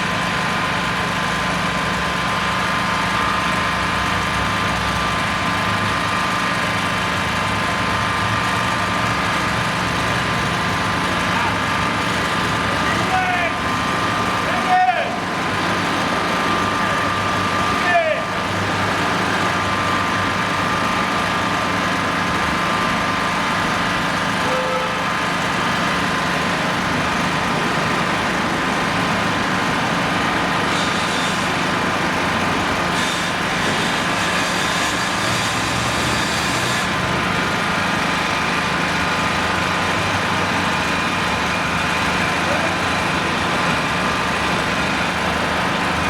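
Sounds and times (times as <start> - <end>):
engine idling with whine: 0.0 - 46.0.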